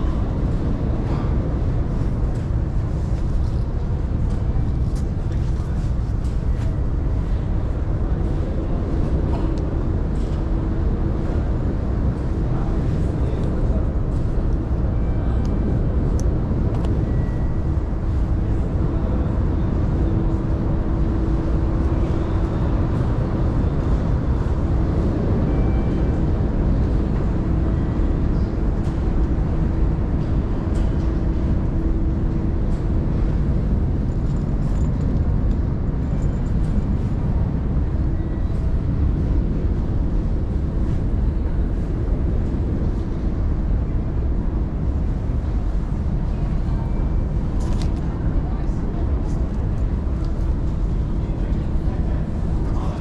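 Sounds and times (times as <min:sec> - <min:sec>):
busy station rumble: 0:00.0 - 0:53.0
faint held hum: 0:00.0 - 0:53.0.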